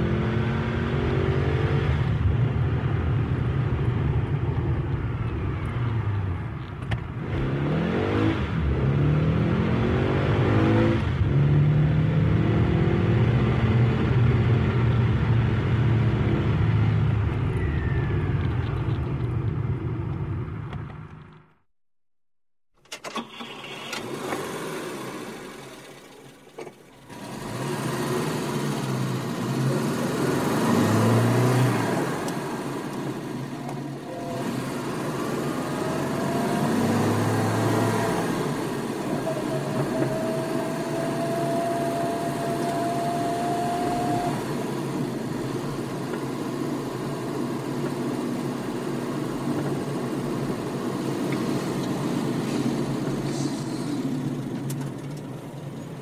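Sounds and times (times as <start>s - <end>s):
sports car engine accelerating: 0.0s - 4.8s, 7.2s - 20.8s, 27.0s - 55.6s.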